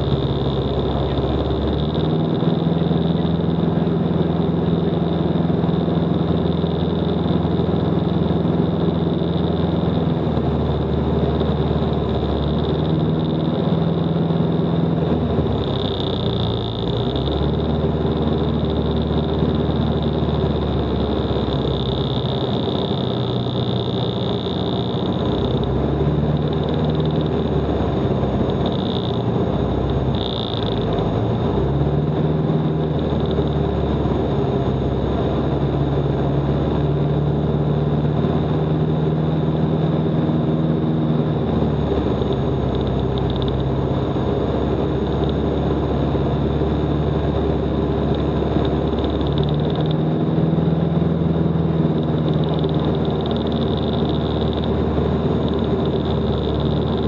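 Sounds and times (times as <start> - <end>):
aircraft engine and propeller drone: 0.0 - 57.0.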